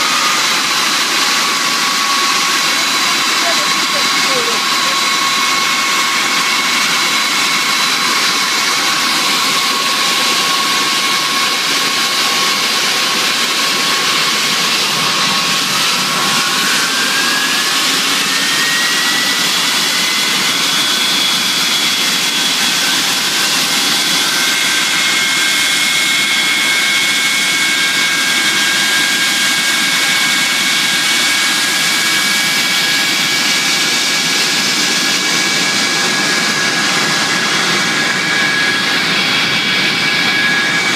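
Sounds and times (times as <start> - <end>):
jet engine spooling up: 0.0 - 40.9
jet engines whining: 0.0 - 40.9.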